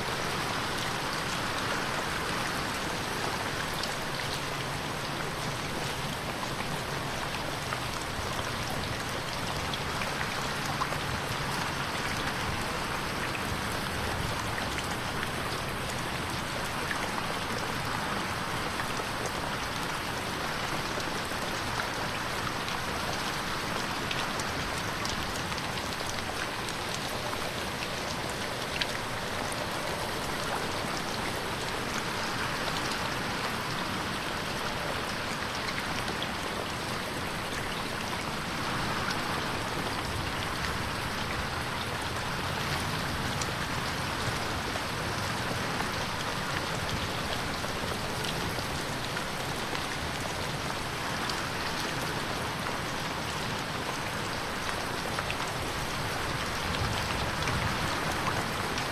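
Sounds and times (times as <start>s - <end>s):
rain pattering on a window: 0.0s - 58.9s.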